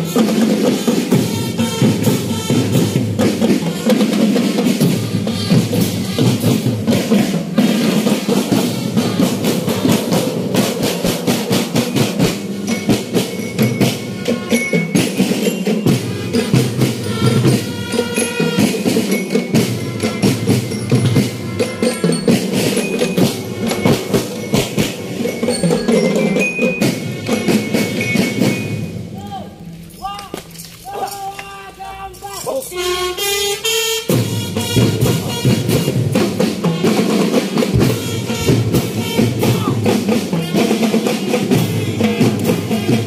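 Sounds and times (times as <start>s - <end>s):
drumline playing fast rhythm: 0.0s - 29.6s, 30.9s - 43.0s.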